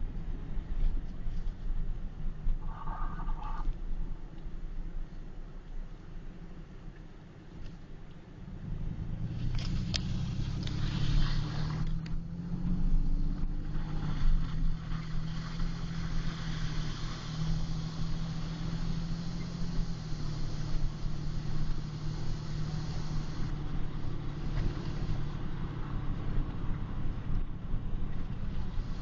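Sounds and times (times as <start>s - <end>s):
car engine drone: 0.0s - 29.0s
road and tyre noise: 0.0s - 29.0s.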